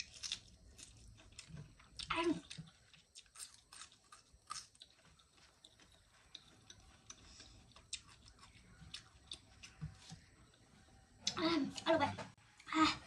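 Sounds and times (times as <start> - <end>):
faint chewing: 0.0 - 11.9.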